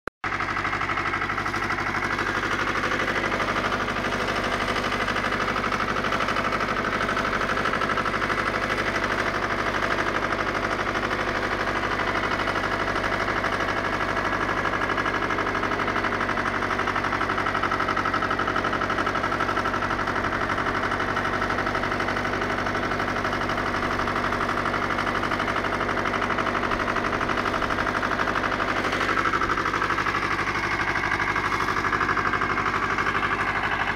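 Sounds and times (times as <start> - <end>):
rotary tiller through soil: 0.2 - 33.9
tractor diesel engine under load: 0.2 - 33.9.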